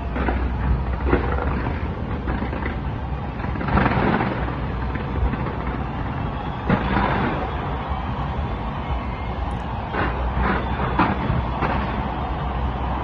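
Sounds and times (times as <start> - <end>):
fireworks bursting: 0.0 - 13.0
heavy firework bangs: 0.0 - 13.0.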